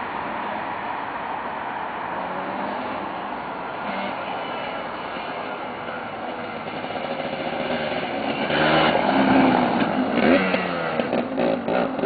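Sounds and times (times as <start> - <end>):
quad bike engine: 0.0 - 12.0.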